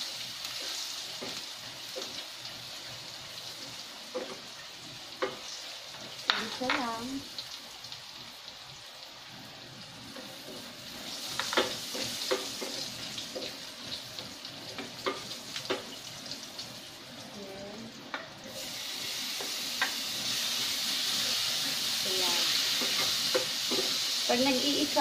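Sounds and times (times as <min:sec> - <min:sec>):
aromatics sizzling in oil: 0:00.0 - 0:25.0.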